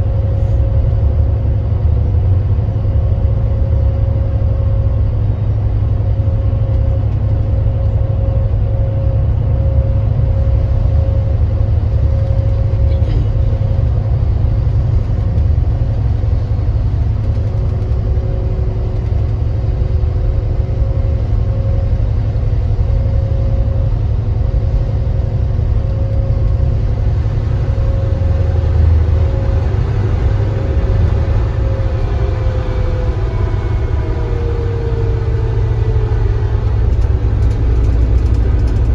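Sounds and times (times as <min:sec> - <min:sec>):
coach engine and road rumble: 0:00.0 - 0:38.9
thin steady whine: 0:04.3 - 0:38.9.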